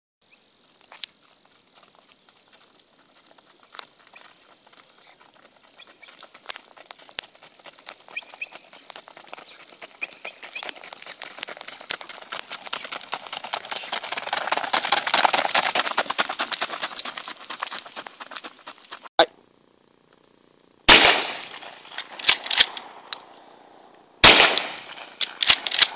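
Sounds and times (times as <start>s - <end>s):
horse hooves on gravel: 0.6s - 19.1s, 21.0s - 25.9s.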